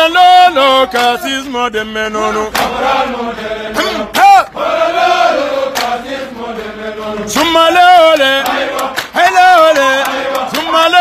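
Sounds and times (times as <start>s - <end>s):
men chanting a song: 0.0s - 11.0s.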